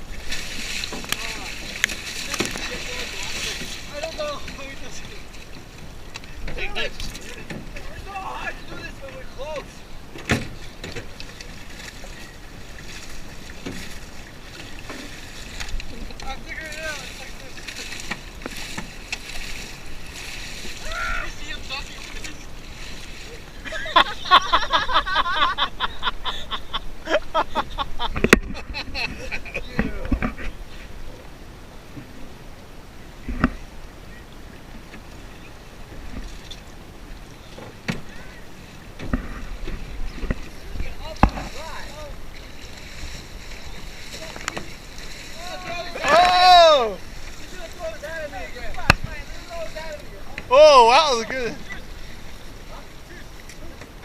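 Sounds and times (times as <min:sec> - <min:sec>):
water splashing from paddling: 0:00.0 - 0:54.0.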